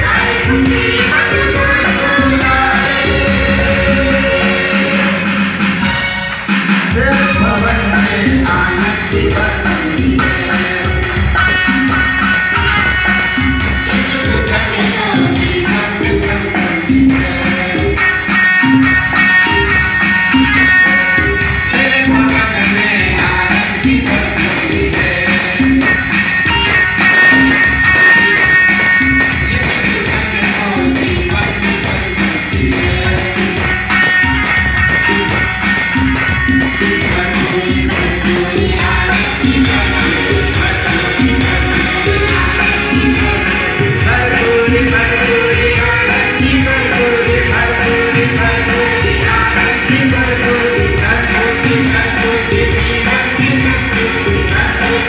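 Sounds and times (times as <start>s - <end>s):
group singing: 0.0s - 55.0s
percussive beat: 0.0s - 55.0s.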